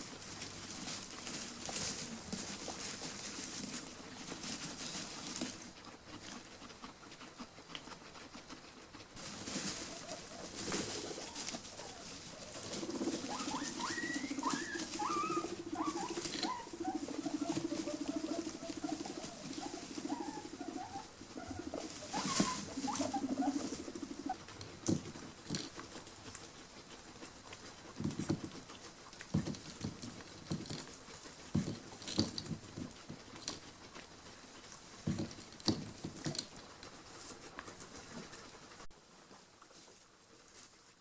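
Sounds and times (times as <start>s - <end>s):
guinea pigs rustling in bedding: 0.0s - 41.0s.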